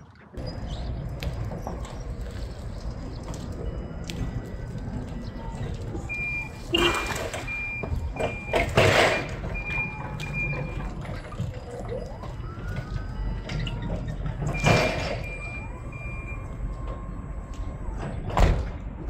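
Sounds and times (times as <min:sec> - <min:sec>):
forklift engine rumble: 0:00.2 - 0:19.0
reversing alarm beeping: 0:00.4 - 0:19.0.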